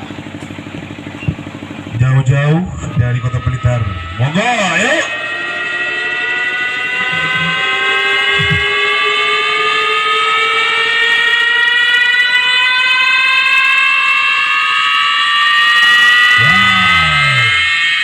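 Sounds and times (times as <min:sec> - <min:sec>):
siren-like rising tones from loudspeakers: 0:00.0 - 0:18.0.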